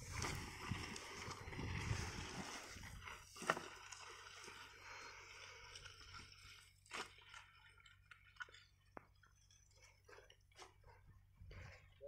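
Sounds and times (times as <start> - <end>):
dry soil crunching: 0.0 - 12.0.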